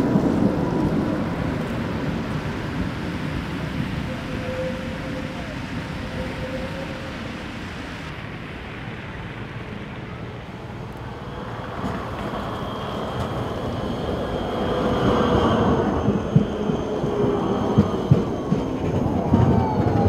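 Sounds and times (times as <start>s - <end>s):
tram passing: 0.0s - 20.0s
wheels rumbling on rails: 0.0s - 20.0s.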